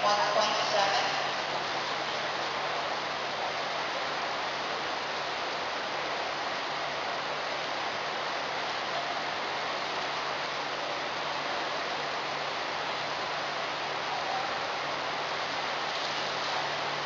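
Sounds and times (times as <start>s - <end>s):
rushing fan noise: 0.0s - 17.0s.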